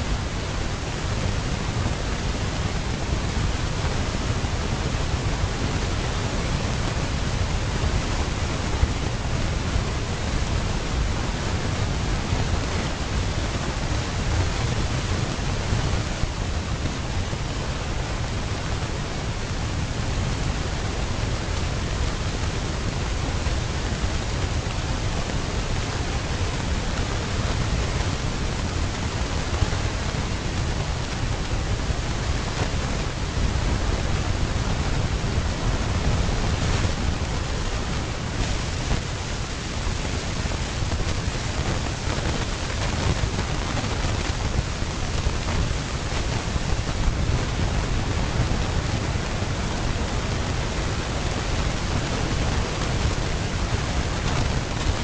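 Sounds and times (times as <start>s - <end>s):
low steady rushing noise: 0.0s - 55.0s.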